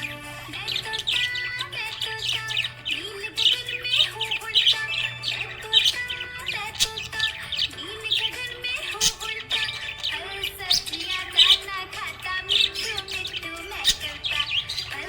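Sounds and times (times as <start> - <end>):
background music: 0.0 - 15.0
budgerigars chirping and warbling: 0.0 - 15.0.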